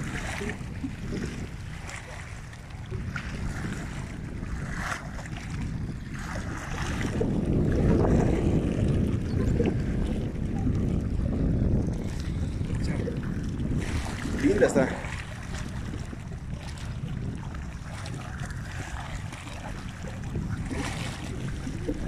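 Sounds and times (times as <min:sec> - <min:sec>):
waves lapping on rocky shore: 0:00.0 - 0:22.0
wind buffeting microphone: 0:00.0 - 0:22.0.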